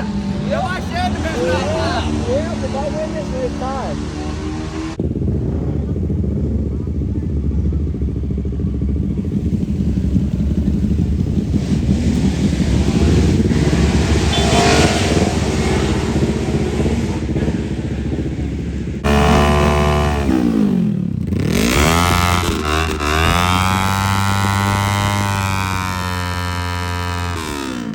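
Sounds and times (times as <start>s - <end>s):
engine revving up: 0.0s - 6.1s, 9.2s - 27.9s
mini bike engines running: 0.0s - 18.4s, 19.0s - 27.9s.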